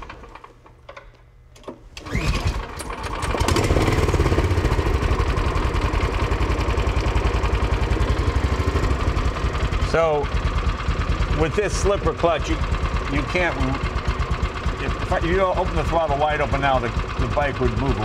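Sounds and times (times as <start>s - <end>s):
recoil starter pull: 0.0s - 18.0s
engine idling: 2.9s - 18.0s.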